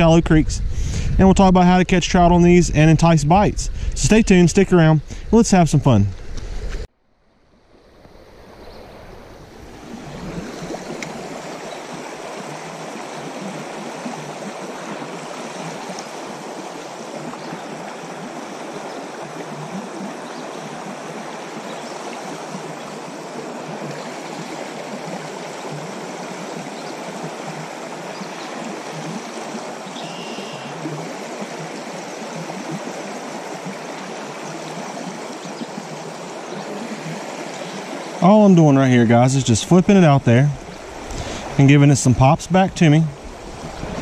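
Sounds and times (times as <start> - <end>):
creek water running: 0.0 - 6.9, 7.6 - 44.0.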